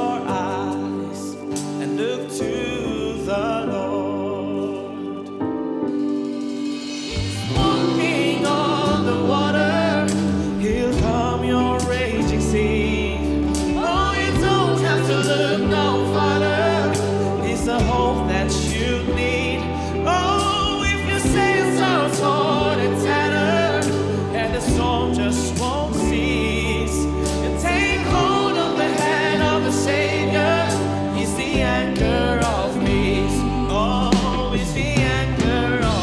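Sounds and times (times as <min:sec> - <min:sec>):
drums: 0:00.0 - 0:02.6, 0:05.7 - 0:36.0
people singing: 0:00.0 - 0:05.4, 0:07.0 - 0:36.0
bass: 0:00.0 - 0:36.0.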